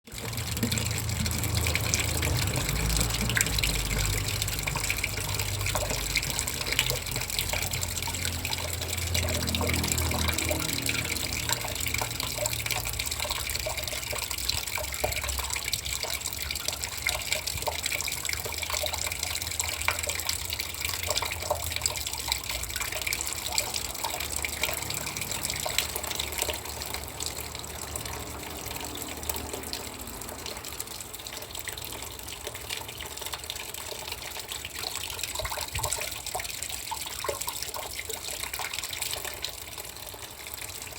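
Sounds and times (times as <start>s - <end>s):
water splashing into bucket: 0.1s - 40.9s.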